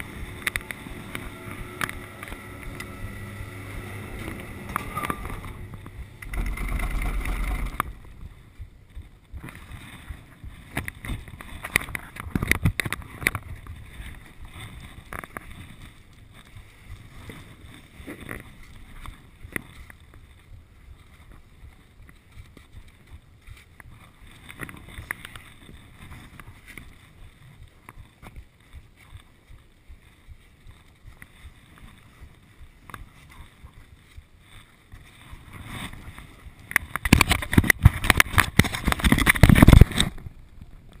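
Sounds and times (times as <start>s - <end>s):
hand rubbing and knocking camera: 0.0s - 41.0s
wind buffeting microphone: 0.0s - 41.0s.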